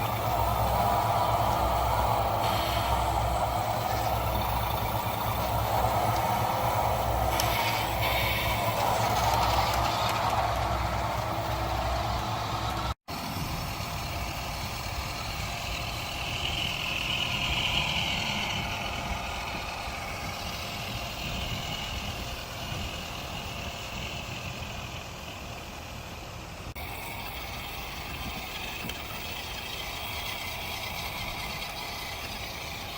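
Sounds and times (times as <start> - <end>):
radio-controlled truck whining: 0.0 - 32.9.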